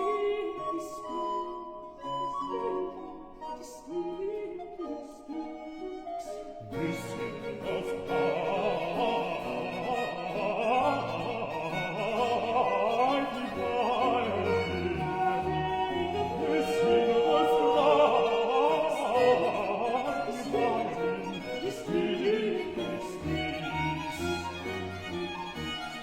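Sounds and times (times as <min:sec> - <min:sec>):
bowed strings accompaniment: 0:00.0 - 0:26.0
soprano and bass singing duet: 0:00.0 - 0:26.0.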